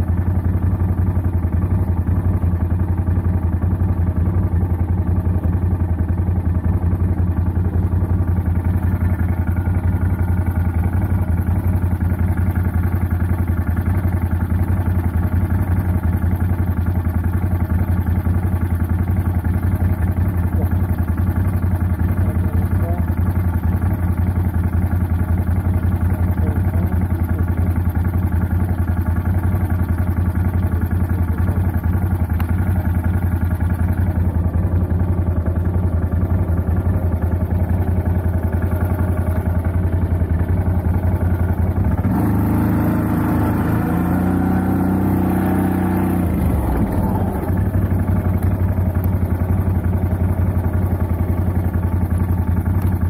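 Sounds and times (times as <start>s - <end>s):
quad engine idling: 0.0s - 53.0s.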